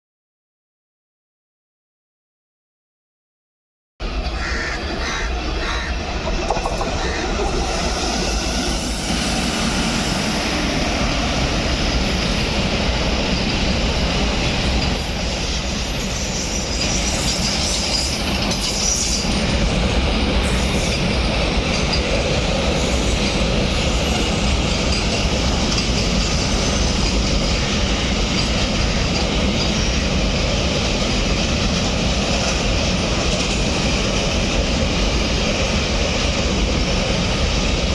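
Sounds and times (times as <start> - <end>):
freight train wagons rumbling: 4.0 - 37.9
rail clatter: 5.3 - 37.9.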